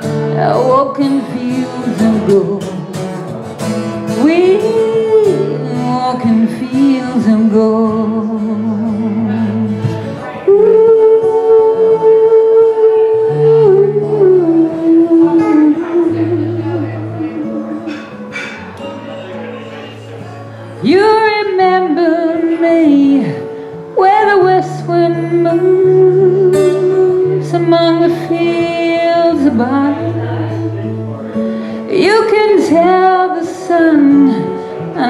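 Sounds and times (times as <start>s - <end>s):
woman singing with vibrato: 0.0s - 3.0s, 4.0s - 18.1s, 20.8s - 30.9s, 31.9s - 35.0s
acoustic guitar: 0.0s - 35.0s.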